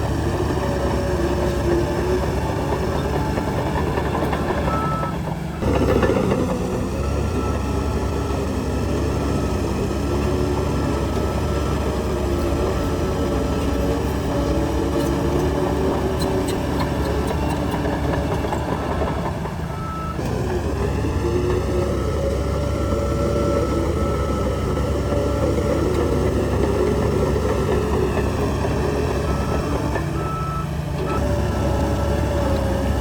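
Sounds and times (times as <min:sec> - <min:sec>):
diesel machinery engine running: 0:00.0 - 0:33.0.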